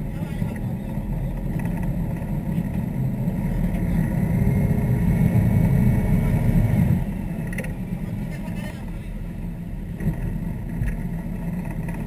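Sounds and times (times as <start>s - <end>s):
boat engines rumbling: 0.0s - 12.0s
faint rising whine: 0.0s - 12.0s.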